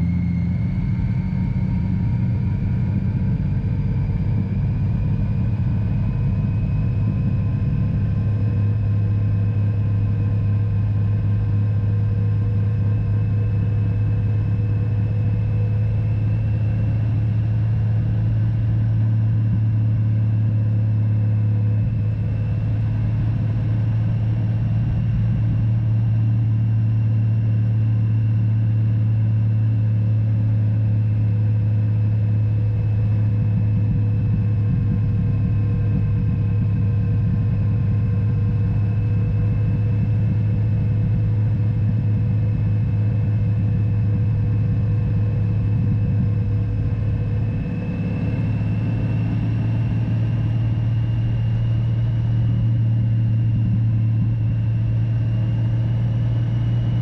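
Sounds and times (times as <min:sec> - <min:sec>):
motorcycle engine drone: 0:00.0 - 0:57.0.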